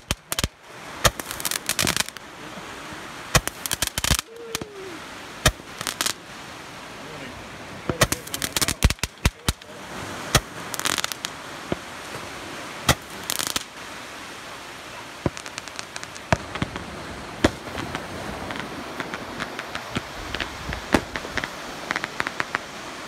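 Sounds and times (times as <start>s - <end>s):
fireworks crackling: 0.0s - 2.6s, 3.2s - 6.6s, 7.2s - 23.0s.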